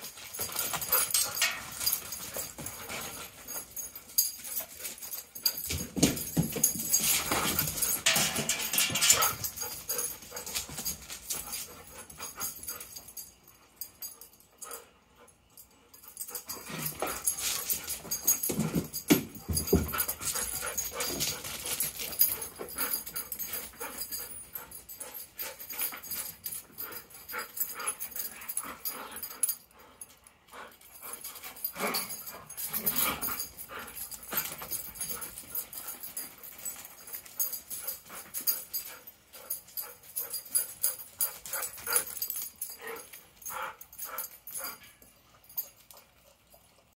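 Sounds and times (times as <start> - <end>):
dogs playing rough: 0.0 - 46.2.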